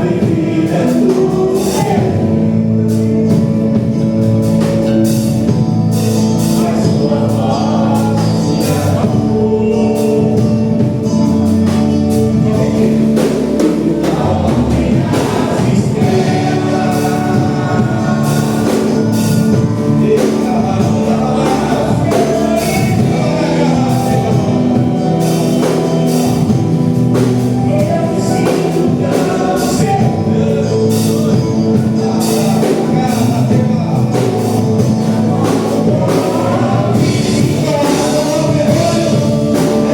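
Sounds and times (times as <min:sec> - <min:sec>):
band with steady drum beat: 0:00.0 - 0:39.9
choir singing gospel music: 0:00.0 - 0:39.9.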